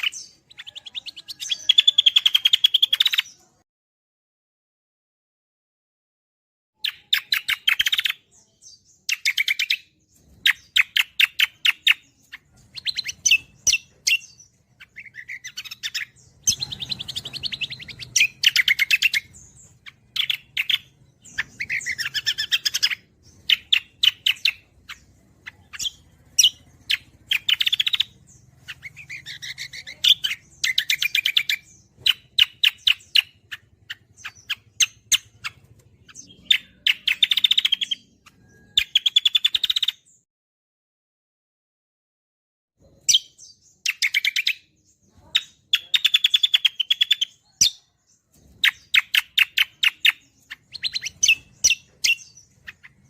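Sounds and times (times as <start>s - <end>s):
songbird trilling song: 0.0s - 3.6s, 6.8s - 40.3s, 42.8s - 53.0s.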